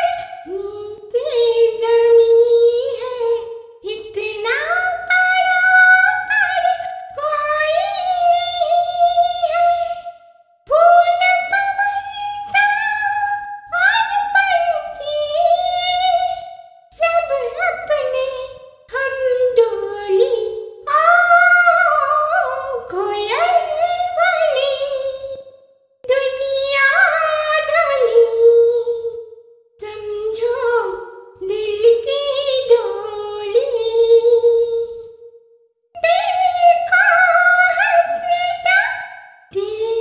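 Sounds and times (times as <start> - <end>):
woman singing unaccompanied: 0.0 - 10.1, 10.7 - 25.4, 26.0 - 35.2, 36.0 - 40.0.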